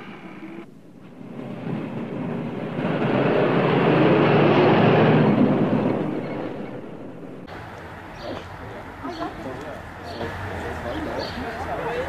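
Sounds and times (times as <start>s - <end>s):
car engine passing by: 1.2s - 12.0s.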